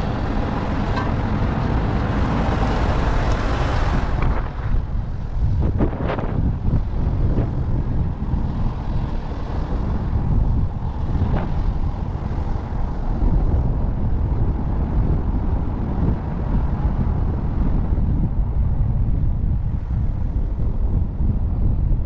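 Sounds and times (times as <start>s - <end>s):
vehicle low rumble: 0.0s - 22.0s
wind buffeting microphone: 0.0s - 22.0s.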